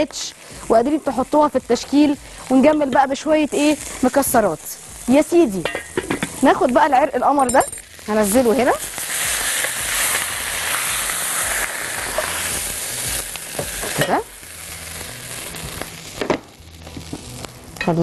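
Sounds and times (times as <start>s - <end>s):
hot fat sizzling in pan: 0.0s - 18.0s.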